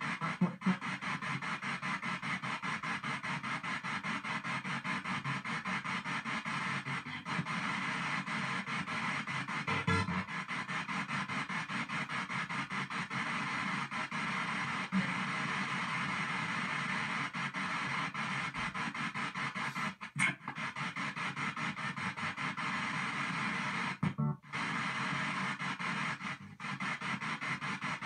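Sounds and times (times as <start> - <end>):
chopped radio static: 0.0 - 28.0.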